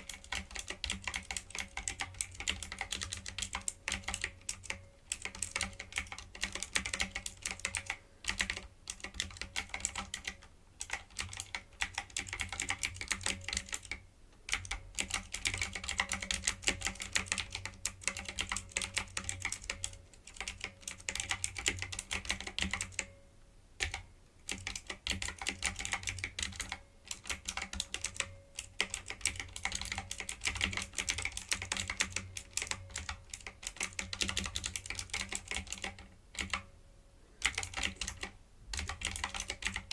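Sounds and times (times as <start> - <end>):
fast keyboard typing: 0.0 - 23.1, 23.8 - 36.6, 37.4 - 39.9.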